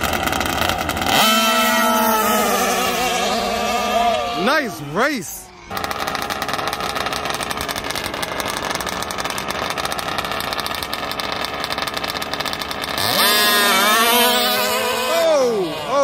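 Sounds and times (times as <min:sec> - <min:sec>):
engines revving: 0:00.0 - 0:16.0
small two-stroke engines popping: 0:00.0 - 0:16.0.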